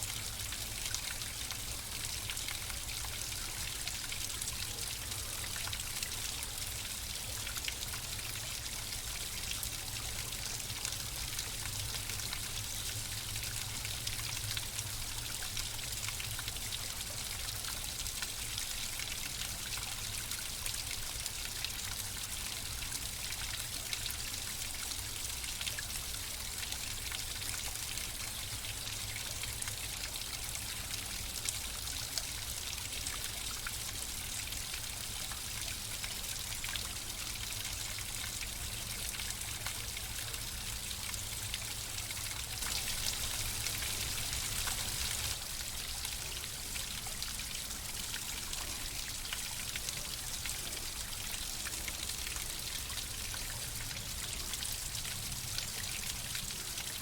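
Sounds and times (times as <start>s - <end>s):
stream trickling and splashing: 0.0s - 57.0s.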